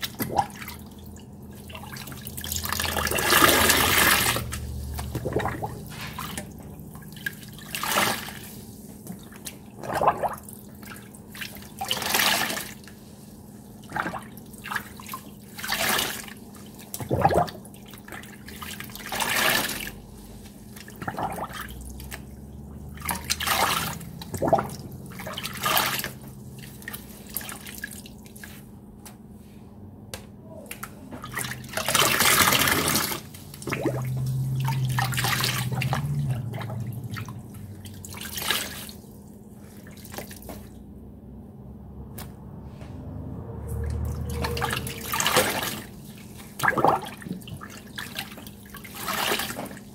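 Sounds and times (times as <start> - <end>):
wet sponges squelching and splashing: 0.0 - 28.8, 30.7 - 41.0, 42.2 - 49.9.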